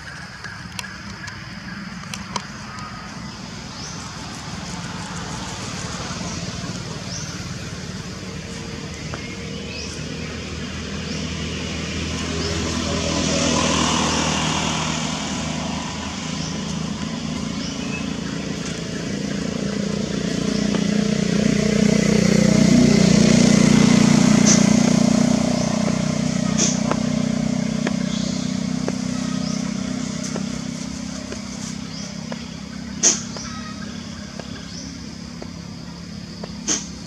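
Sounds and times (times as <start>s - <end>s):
vehicle engines passing: 0.0s - 37.0s.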